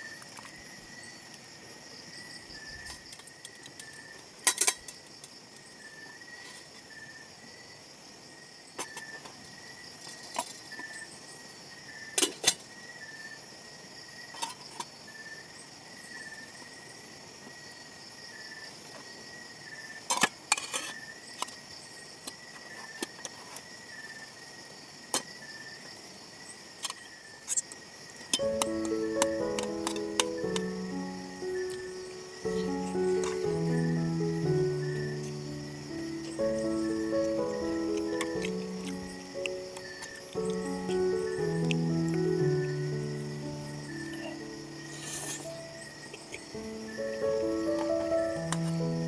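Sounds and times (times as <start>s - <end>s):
insects chirping and buzzing: 0.0s - 49.0s.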